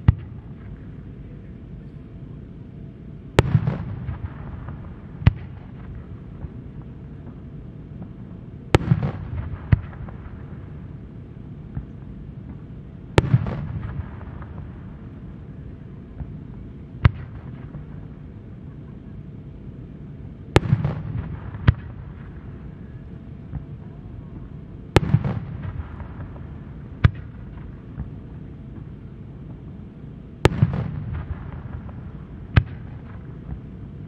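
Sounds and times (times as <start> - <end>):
crackling echo: 0.0 - 34.0.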